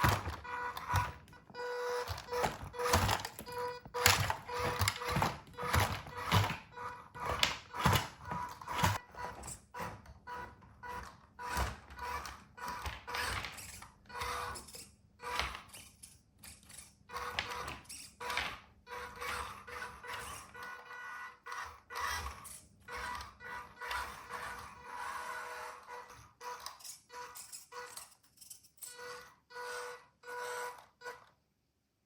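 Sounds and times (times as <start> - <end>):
toy truck plastic knocks and rattles: 0.0 - 31.4.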